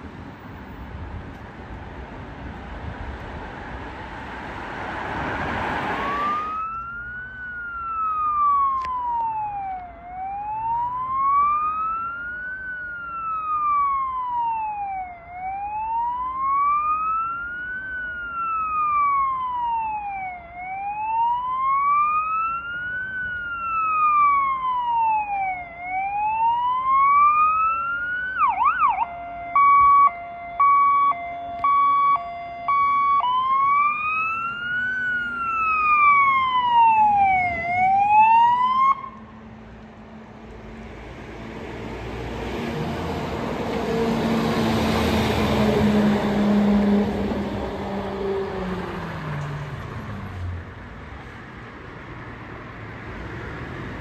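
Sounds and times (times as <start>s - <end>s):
car passing with tyre noise: 0.0s - 54.0s
fire engine siren: 4.2s - 51.7s.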